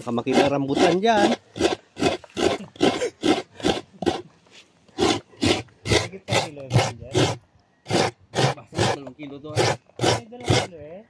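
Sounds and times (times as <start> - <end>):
coconut scraping on grater blade: 0.0 - 4.2, 5.0 - 10.7.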